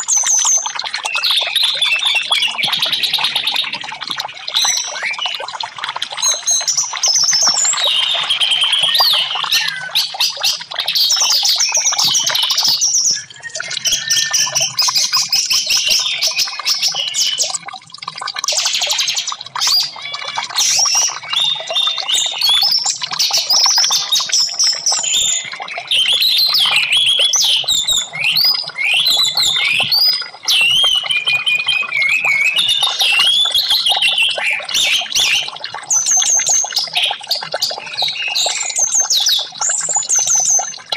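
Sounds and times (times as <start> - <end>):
thrush singing whistled phrases: 0.0 - 17.6, 18.5 - 40.9.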